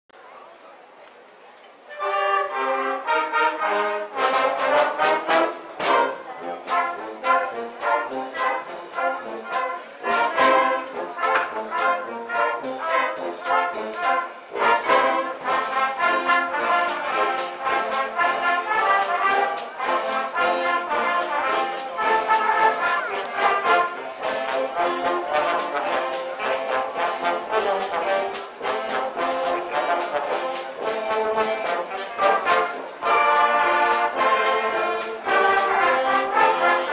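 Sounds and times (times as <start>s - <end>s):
concert wind band playing: 1.9s - 36.9s
trumpets and trombones: 1.9s - 36.9s.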